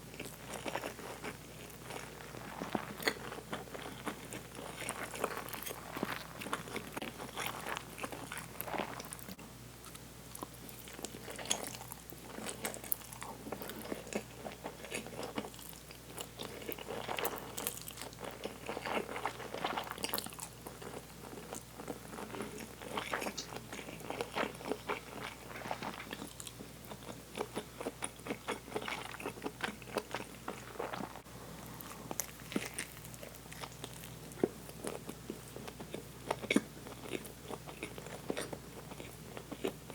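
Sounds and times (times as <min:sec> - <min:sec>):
chewing noodles: 0:00.2 - 0:39.9.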